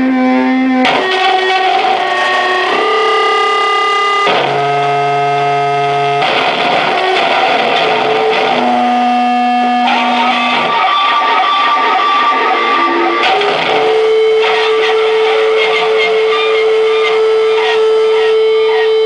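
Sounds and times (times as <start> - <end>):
buzzy electronic tones: 0.0 - 19.0
harsh noise wash: 0.9 - 19.0.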